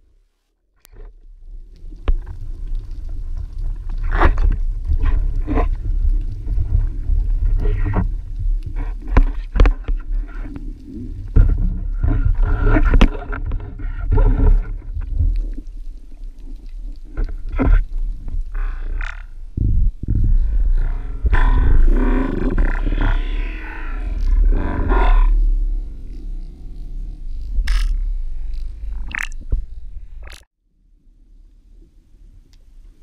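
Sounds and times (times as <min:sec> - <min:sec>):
underwater water rumble: 0:01.0 - 0:33.0.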